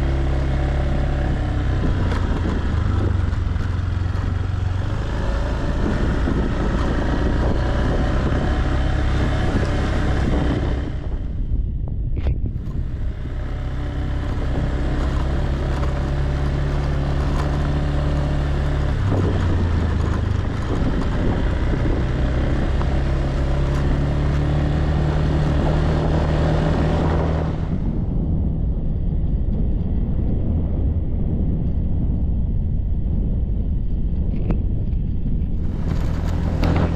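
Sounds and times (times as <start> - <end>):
motorbike engine running: 0.0 - 32.6, 33.6 - 36.9.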